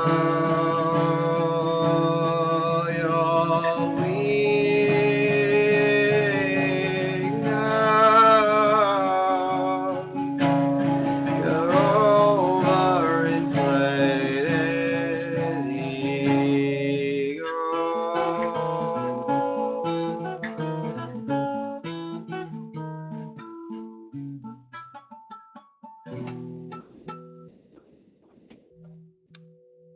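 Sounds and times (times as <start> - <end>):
acoustic guitar strummed chords: 0.0 - 27.5
acoustic guitar picked notes: 0.0 - 29.9.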